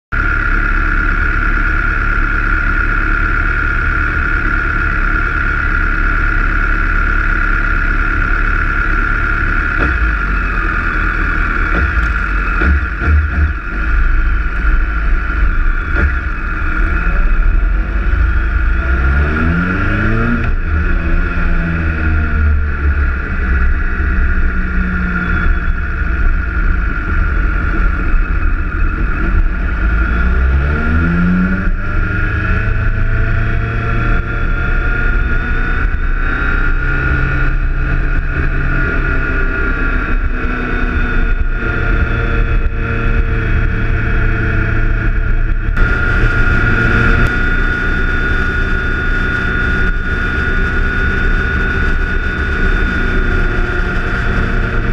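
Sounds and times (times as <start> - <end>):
motorcycle engine running: 0.1 - 54.9
steady high whine: 0.1 - 54.9
wind rumble: 9.8 - 30.4, 31.3 - 54.9.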